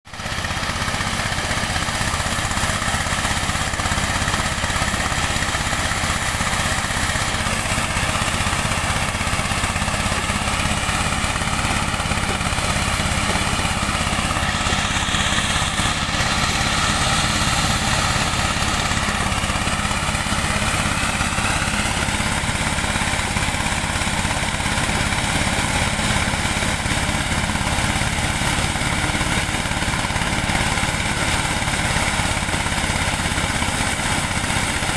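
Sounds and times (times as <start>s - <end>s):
engine-driven corn sheller running: 0.1s - 34.9s.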